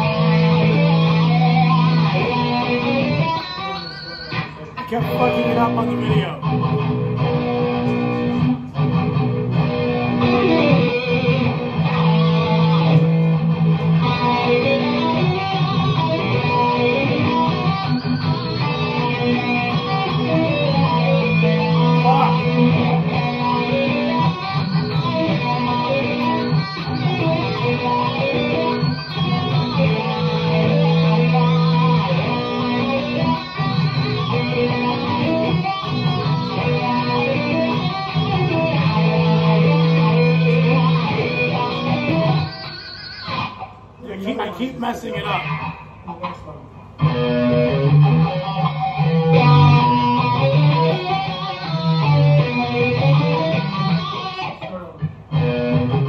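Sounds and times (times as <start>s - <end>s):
electric guitar rock riff: 0.0s - 56.0s
recorded riff from tv: 0.0s - 56.0s.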